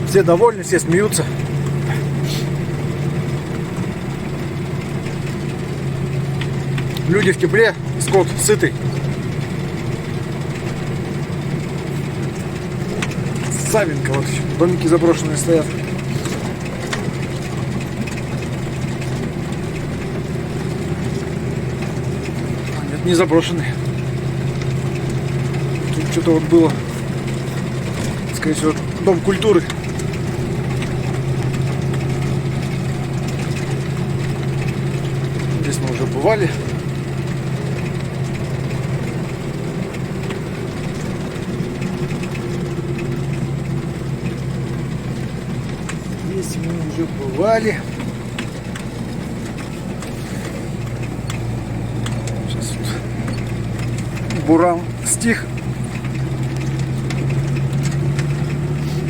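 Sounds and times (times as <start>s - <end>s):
truck engine humming: 0.0s - 59.0s.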